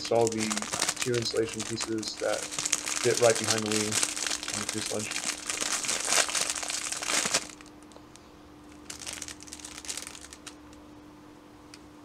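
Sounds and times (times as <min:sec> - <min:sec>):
packaging crinkling: 0:00.0 - 0:07.9, 0:08.7 - 0:10.8.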